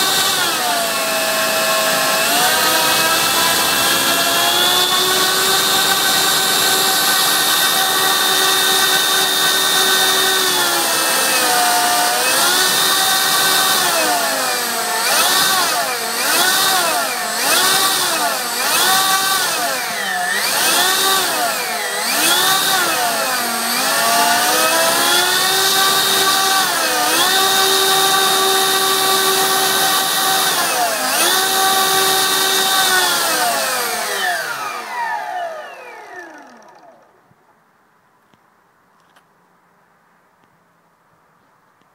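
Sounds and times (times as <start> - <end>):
electric motor whine: 0.0 - 37.3.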